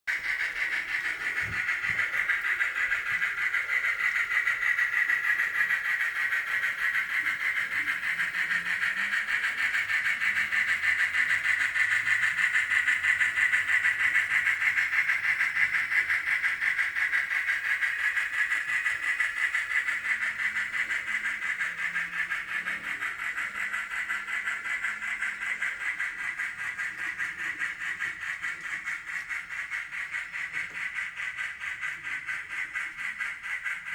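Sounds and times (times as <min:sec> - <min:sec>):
model train whirring: 0:00.1 - 0:33.9.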